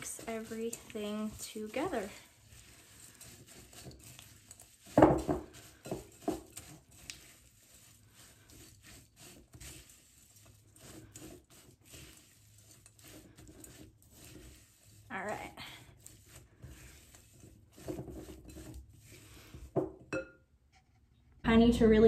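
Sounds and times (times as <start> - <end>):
spatula scraping glass bowl: 0.0 - 20.0.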